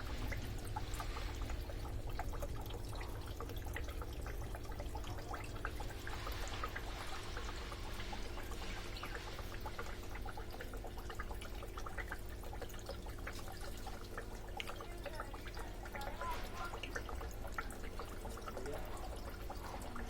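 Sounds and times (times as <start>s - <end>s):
fountain water trickling: 0.0s - 20.0s.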